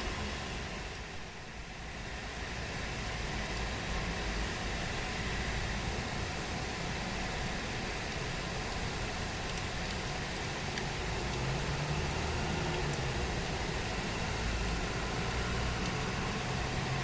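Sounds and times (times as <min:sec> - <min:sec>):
low engine hum: 0:00.0 - 0:17.0
steady rain falling: 0:00.0 - 0:17.0.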